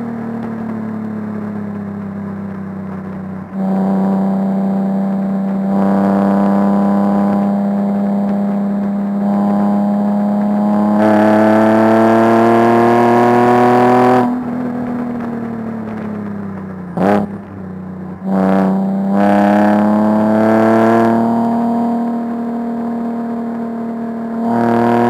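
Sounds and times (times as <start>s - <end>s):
car engine revving: 0.0s - 25.0s
low drone: 0.0s - 25.0s.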